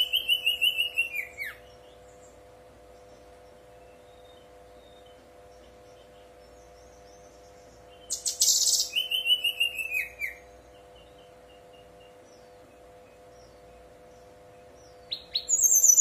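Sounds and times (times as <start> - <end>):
bird singing whistled notes: 0.0 - 2.4, 3.0 - 16.0
low steady hum: 0.0 - 16.0.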